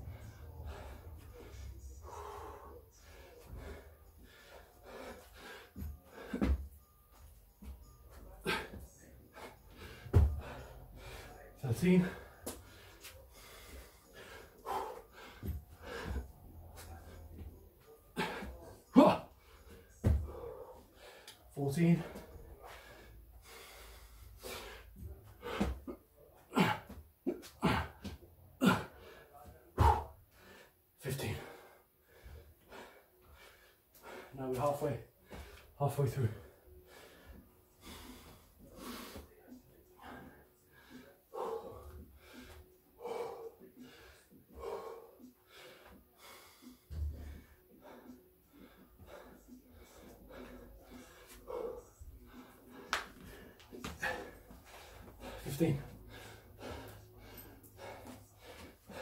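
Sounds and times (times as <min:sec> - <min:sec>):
man breathing heavily: 0:00.0 - 0:59.0.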